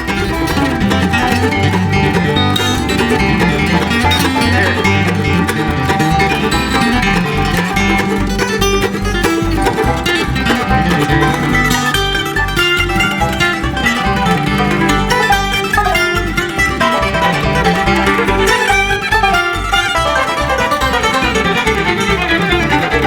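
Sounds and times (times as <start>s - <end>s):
bluegrass band playing: 0.0s - 23.0s.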